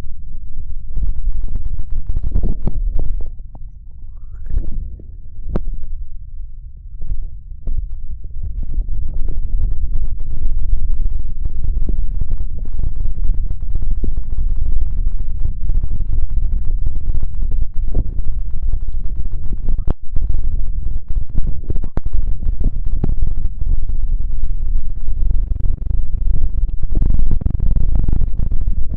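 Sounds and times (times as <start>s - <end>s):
rubbing and scratching on microphone: 0.0s - 5.9s, 6.9s - 28.9s.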